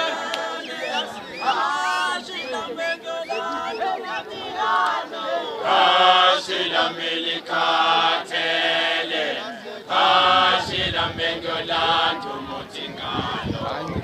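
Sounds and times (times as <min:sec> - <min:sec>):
voices chanting in unison: 0:00.0 - 0:14.0.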